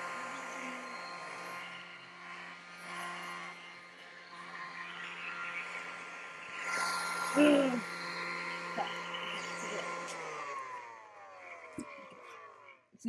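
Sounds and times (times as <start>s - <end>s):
air pump motor hum: 0.0s - 12.8s.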